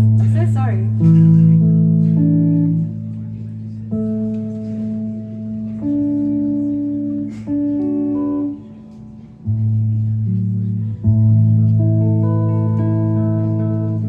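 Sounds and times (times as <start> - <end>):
guitar chords: 0.0 - 14.0.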